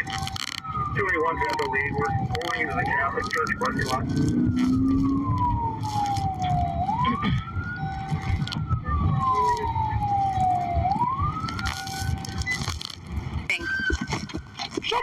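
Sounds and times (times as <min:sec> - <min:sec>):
police siren wailing: 0:00.0 - 0:14.6
low vehicle rumble: 0:00.0 - 0:15.0.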